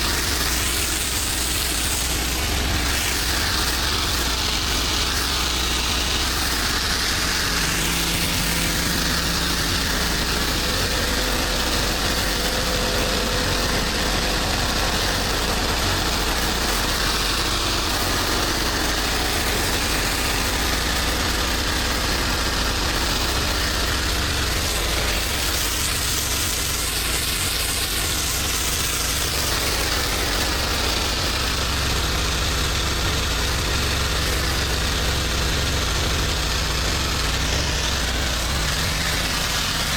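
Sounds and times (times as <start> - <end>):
constant hiss: 0.0 - 39.9
pressure washer engine running: 0.0 - 39.9.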